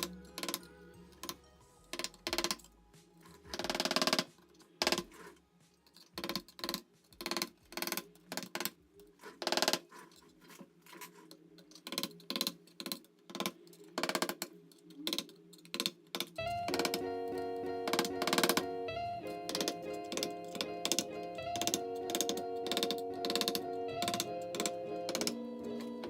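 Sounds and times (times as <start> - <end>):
small tools clicking and tapping: 0.0 - 17.1, 19.4 - 26.0
faint background music: 0.0 - 26.0.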